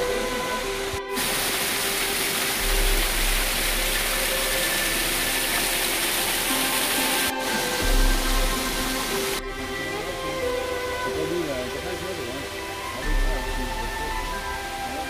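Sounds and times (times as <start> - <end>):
soft held music notes: 0.0 - 15.0
waterfall rushing and splashing: 0.0 - 15.0.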